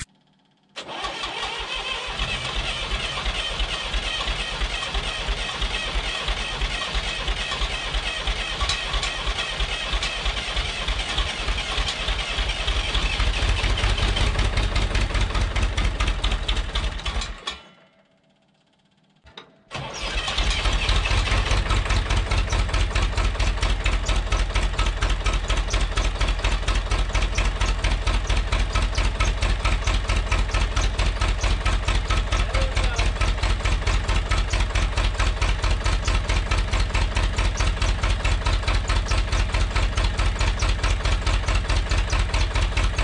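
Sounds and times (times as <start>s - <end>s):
engine cranking and running: 0.8s - 17.6s, 19.2s - 43.0s.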